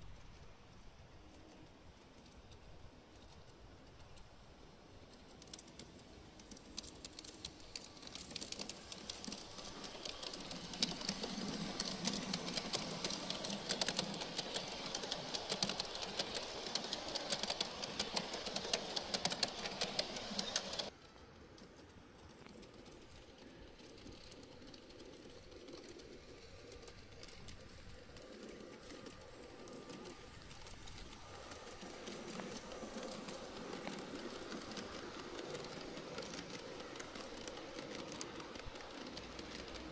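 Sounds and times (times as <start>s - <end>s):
model train wheels clattering: 1.2s - 39.9s
distant train clicking: 4.6s - 39.9s.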